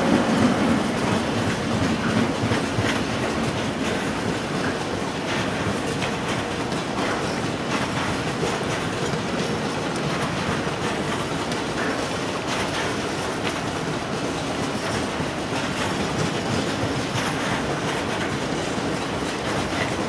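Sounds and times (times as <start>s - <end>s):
freight train rolling past: 0.0s - 20.0s
wheels clicking over rail joints: 0.0s - 20.0s.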